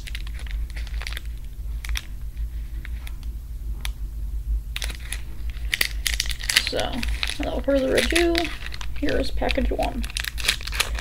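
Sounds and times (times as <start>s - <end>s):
foil wrapper crinkling: 0.0s - 3.3s, 4.8s - 11.0s
steady low hum: 0.0s - 11.0s.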